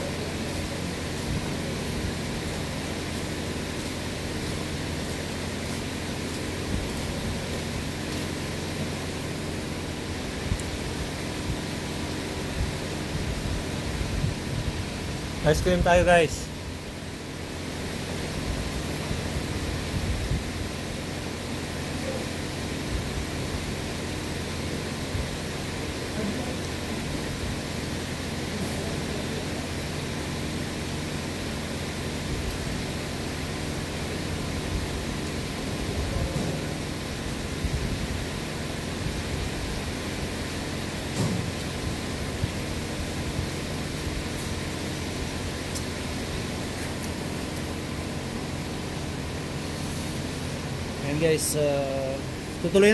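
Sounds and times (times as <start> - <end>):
even hiss: 0.0 - 52.9.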